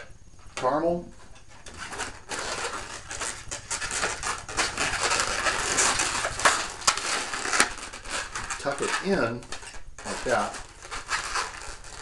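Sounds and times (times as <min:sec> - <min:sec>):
balloon squeaking and rubbing: 0:01.8 - 0:12.0.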